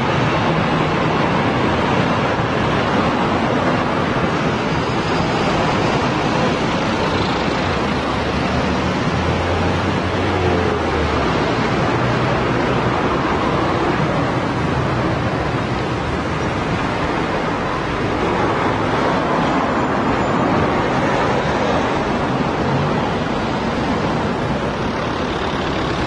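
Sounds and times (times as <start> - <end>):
passing vehicles rushing: 0.0 - 26.0.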